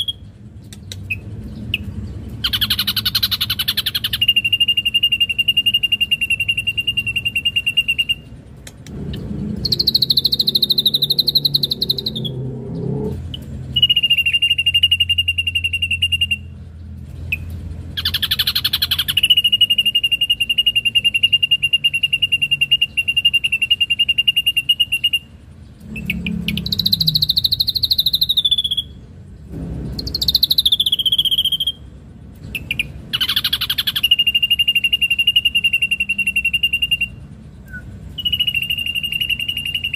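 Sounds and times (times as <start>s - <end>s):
bird singing fast trills: 0.0s - 39.9s
harsh bird call bursts: 1.8s - 8.3s, 9.2s - 16.6s, 17.3s - 29.1s, 29.9s - 39.9s.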